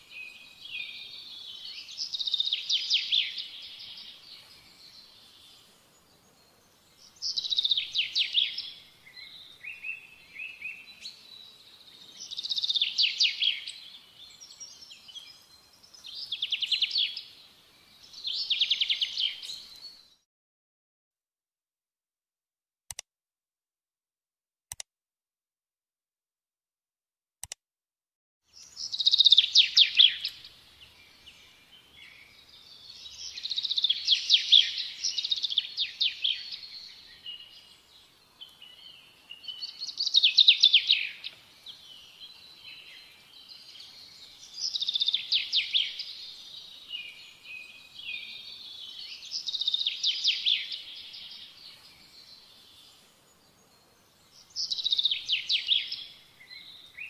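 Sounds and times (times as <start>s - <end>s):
soft bird twittering: 0.1s - 5.6s, 6.3s - 20.2s, 28.6s - 57.0s.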